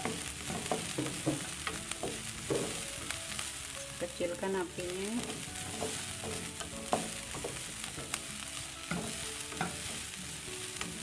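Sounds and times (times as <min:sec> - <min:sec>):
spatula knocking pan: 0:00.0 - 0:03.4, 0:05.1 - 0:11.0
onion and garlic sizzling in oil: 0:00.0 - 0:11.0
spatula scraping wok: 0:00.0 - 0:11.0.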